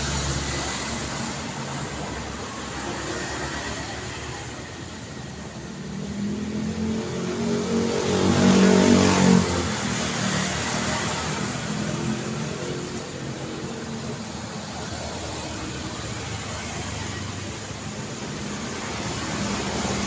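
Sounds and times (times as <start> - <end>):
steady road hum: 0.0 - 20.0
vehicle engine passing: 0.0 - 20.0.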